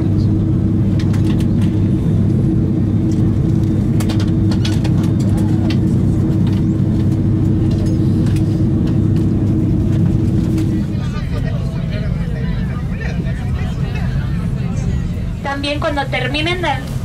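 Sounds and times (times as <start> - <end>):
constant hum tone: 0.0 - 17.0
distant voices: 0.0 - 17.0
low aircraft cabin drone: 0.0 - 17.0.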